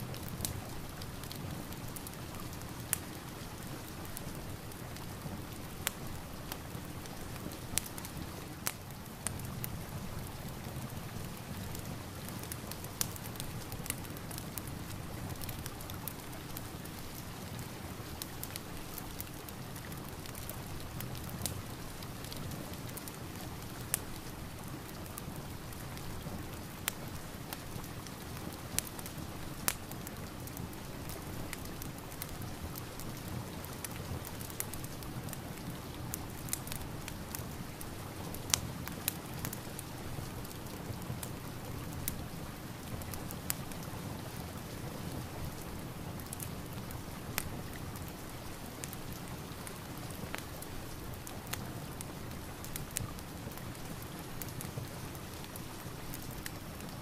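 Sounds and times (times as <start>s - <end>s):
steady rain hiss: 0.0s - 57.0s
wood fire crackling: 0.0s - 57.0s.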